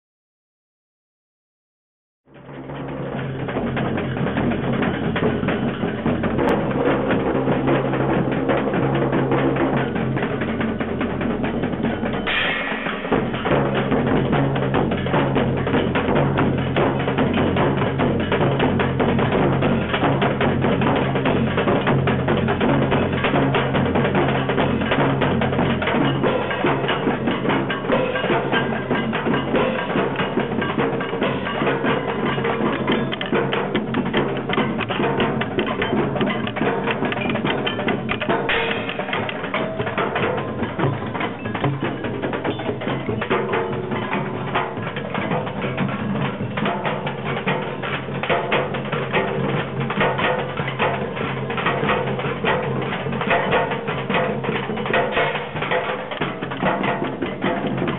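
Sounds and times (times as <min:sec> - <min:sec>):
group percussion playing: 0:02.3 - 0:57.9.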